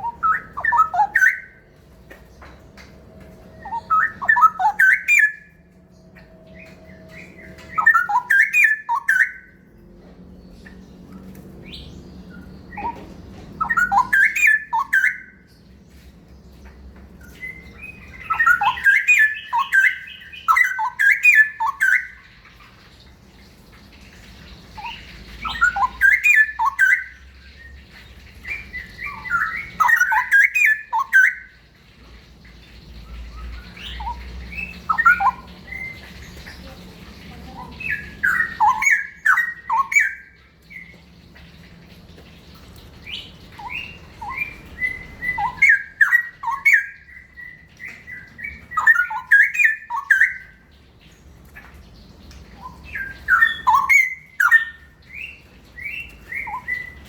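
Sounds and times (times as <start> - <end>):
bird singing rolling song phrases: 0.0 - 57.0.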